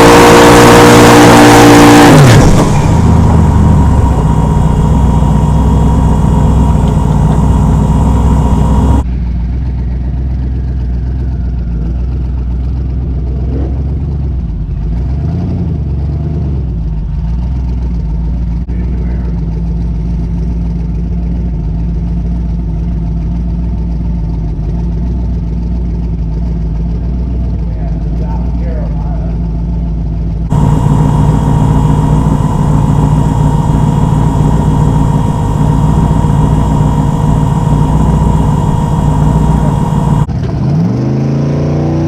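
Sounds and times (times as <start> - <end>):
car engine running: 0.0 - 28.4, 29.5 - 40.5.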